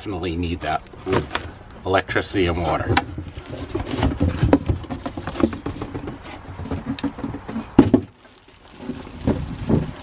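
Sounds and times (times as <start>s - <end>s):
cardboard and plastic rustling: 0.2s - 10.0s.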